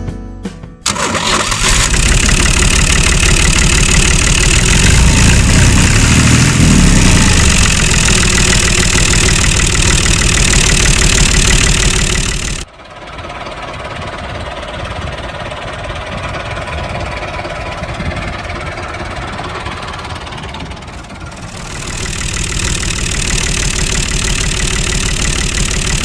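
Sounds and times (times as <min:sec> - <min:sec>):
engine chugging: 0:00.8 - 0:26.0.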